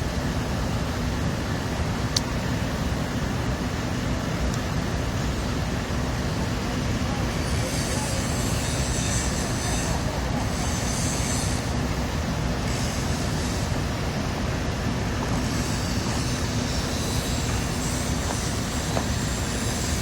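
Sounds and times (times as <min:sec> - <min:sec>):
crane machinery rumbling: 0:00.0 - 0:20.0.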